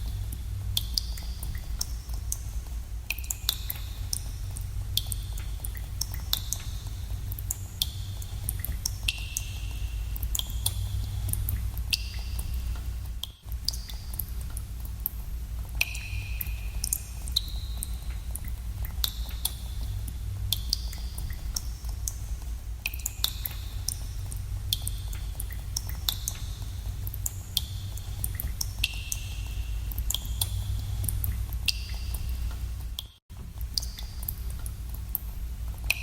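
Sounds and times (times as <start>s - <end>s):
water drops plinking into pools: 0.0s - 36.0s
low rumble: 4.0s - 22.9s, 23.6s - 33.8s.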